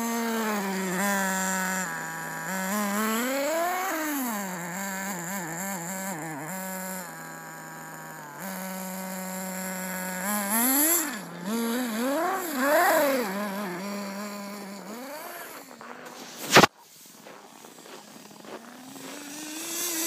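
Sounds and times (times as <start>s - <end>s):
rc car engine revving: 0.0s - 20.0s.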